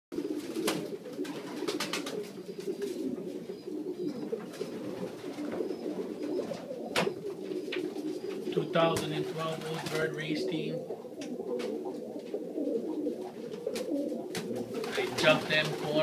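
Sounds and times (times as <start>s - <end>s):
pigeons cooing: 0.1s - 16.0s.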